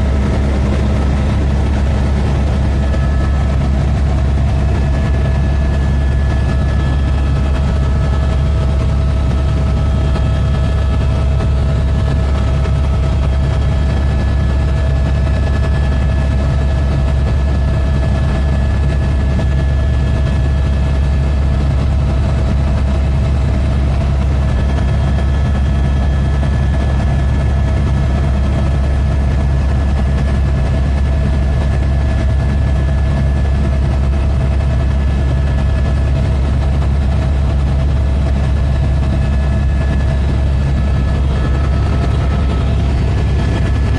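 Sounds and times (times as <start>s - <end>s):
helicopter rotor drone: 0.0s - 43.9s
high engine whine: 0.0s - 43.9s.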